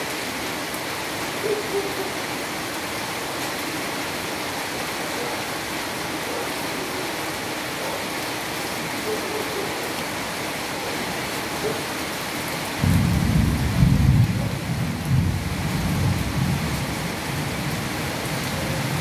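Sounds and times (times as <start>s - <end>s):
steady rain on pavement: 0.0s - 19.0s.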